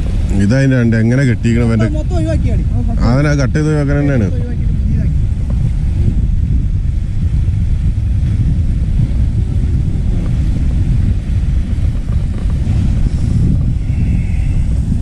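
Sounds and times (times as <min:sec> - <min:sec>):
surf washing on rocks: 0:00.0 - 0:15.0
wind buffeting microphone: 0:00.0 - 0:15.0.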